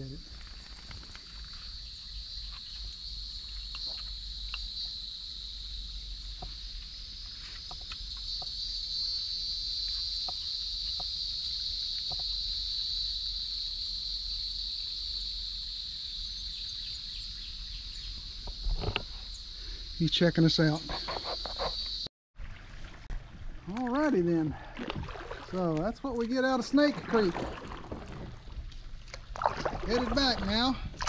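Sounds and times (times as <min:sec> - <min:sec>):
insects trilling: 0:00.0 - 0:22.1, 0:23.7 - 0:31.0.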